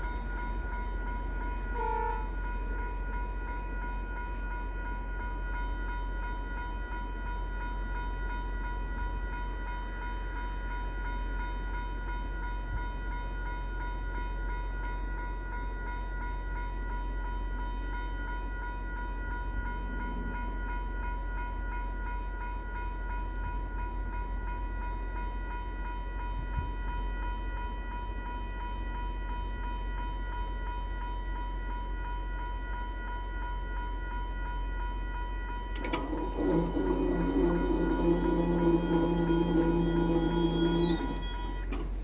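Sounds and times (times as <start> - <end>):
diesel locomotive rumble and whine: 0.0 - 42.0.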